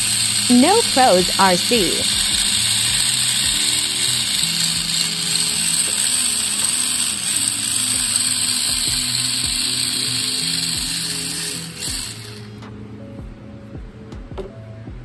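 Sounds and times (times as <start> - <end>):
electric motor whirring: 0.0 - 12.9.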